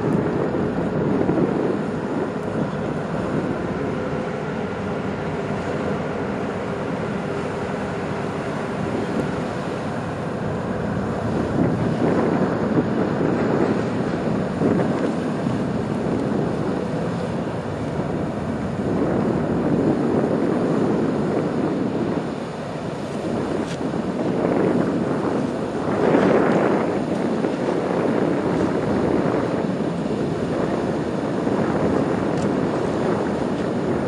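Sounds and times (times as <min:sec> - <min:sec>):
ship engines running: 0:00.0 - 0:34.0
wind buffeting microphone: 0:00.0 - 0:34.0.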